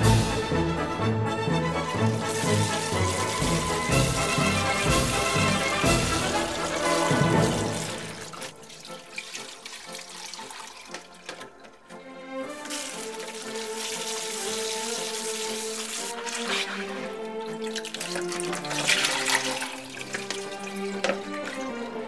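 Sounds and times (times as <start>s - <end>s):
background music: 0.0s - 22.0s
tap water running into basin: 1.8s - 22.0s
water splashing: 1.8s - 22.0s.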